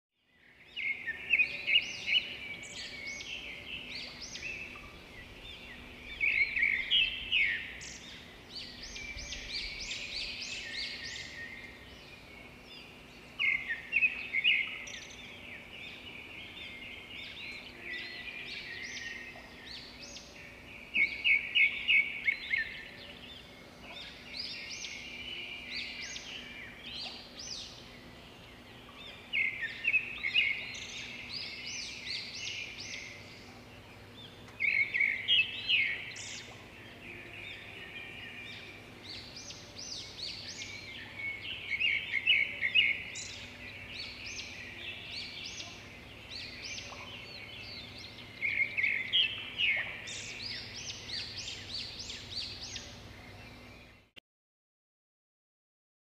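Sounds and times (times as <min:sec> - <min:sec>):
songbirds chirping and singing: 0:00.2 - 0:54.1.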